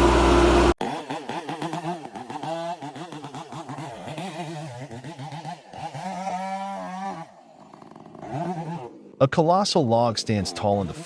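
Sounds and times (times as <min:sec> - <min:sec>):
chainsaw engine revving: 0:00.0 - 0:09.2.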